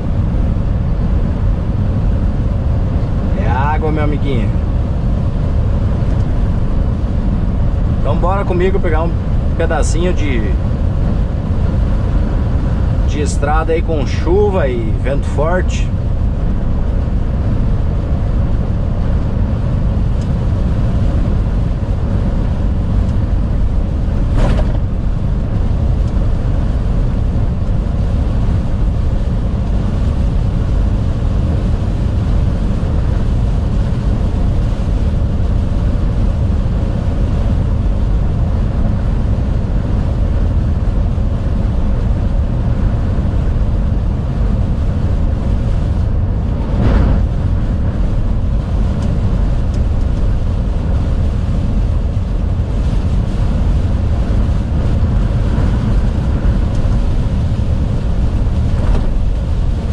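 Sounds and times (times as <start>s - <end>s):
heavy rain and wind: 0.0s - 59.9s
truck cab rumble: 0.0s - 59.9s.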